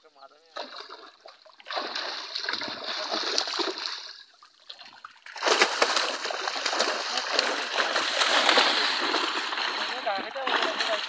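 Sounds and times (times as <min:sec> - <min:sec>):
fish splashing in a net: 0:00.6 - 0:11.0.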